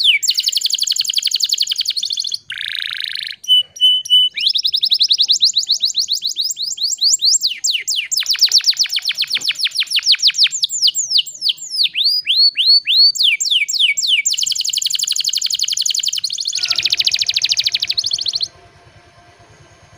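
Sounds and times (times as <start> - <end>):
canary singing: 0.0 - 18.6.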